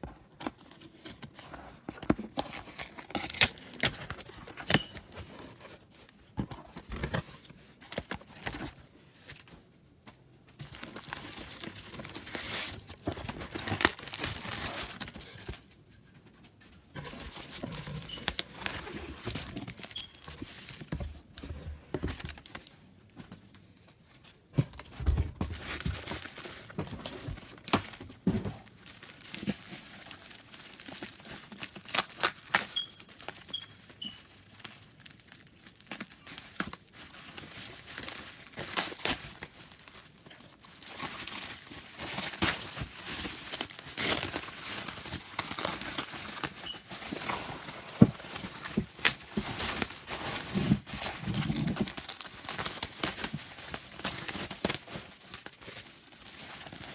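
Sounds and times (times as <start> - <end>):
packaging crinkling and tearing: 0.3 - 9.6, 10.5 - 15.9, 17.0 - 22.9, 24.8 - 56.9.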